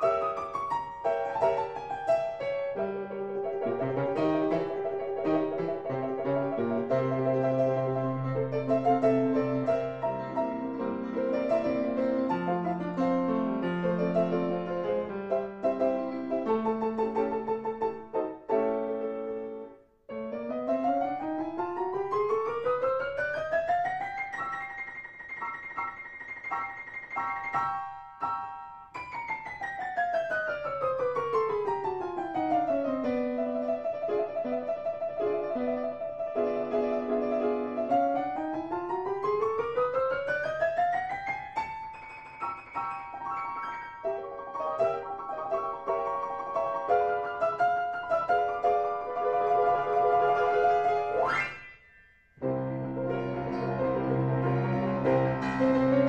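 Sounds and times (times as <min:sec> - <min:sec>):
solo piano: 0:00.0 - 0:56.0.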